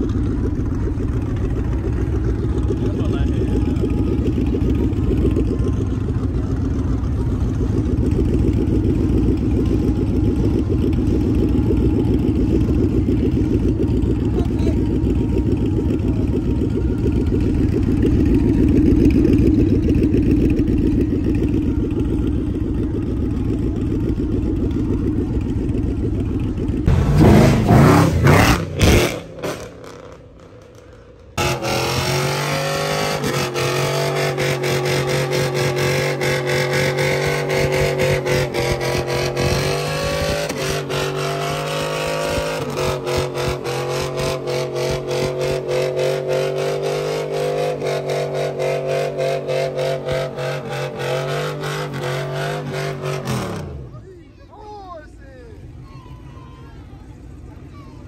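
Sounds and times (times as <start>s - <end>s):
car engines revving: 0.0s - 54.1s.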